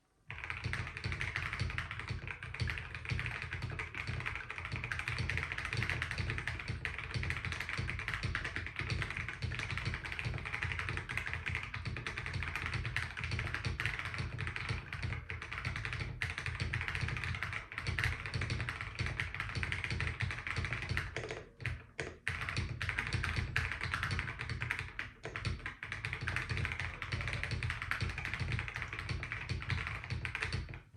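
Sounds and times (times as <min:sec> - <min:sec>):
fast typing on mechanical keyboard: 0:00.3 - 0:30.9.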